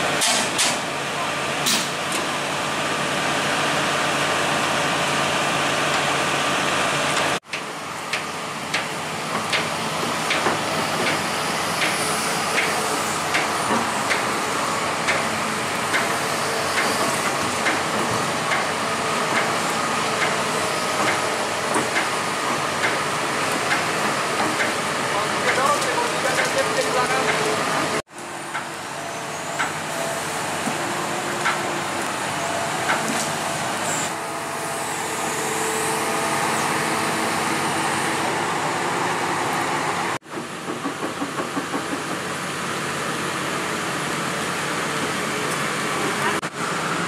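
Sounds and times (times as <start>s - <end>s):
excavator diesel engines running: 0.0s - 47.0s.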